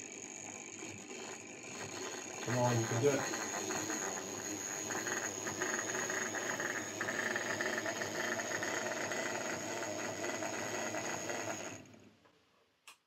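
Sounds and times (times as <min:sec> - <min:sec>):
model train motor whining: 0:00.0 - 0:12.0.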